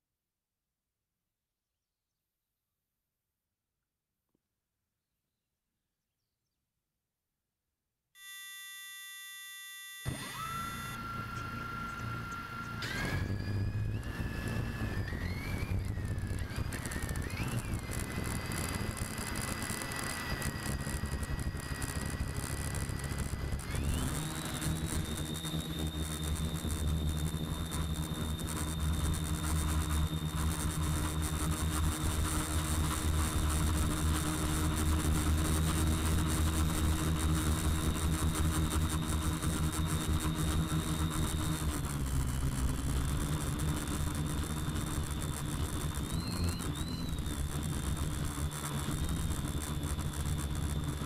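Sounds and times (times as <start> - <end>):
drone motors whining: 8.2 - 51.0.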